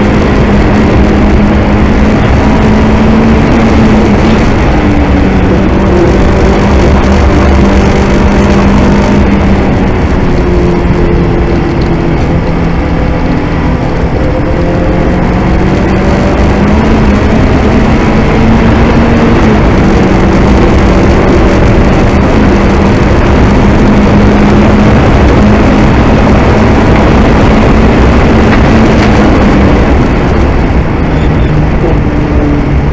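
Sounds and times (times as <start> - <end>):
car engine running hard: 0.0 - 32.9
dense rush of noise: 0.0 - 32.9.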